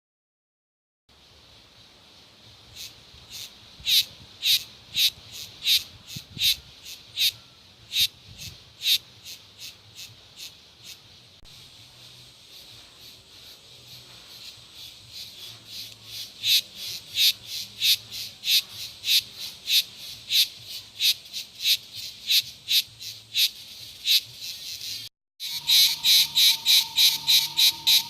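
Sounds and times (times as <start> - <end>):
cicadas singing: 2.5 - 28.0.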